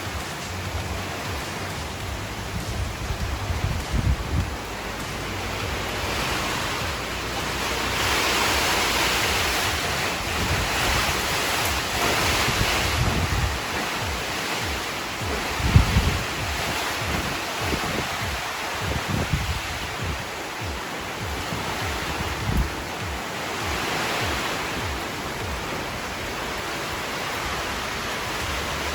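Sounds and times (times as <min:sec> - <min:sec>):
wind and rain rushing: 0:00.0 - 0:28.9
wind buffeting microphone: 0:00.0 - 0:28.9.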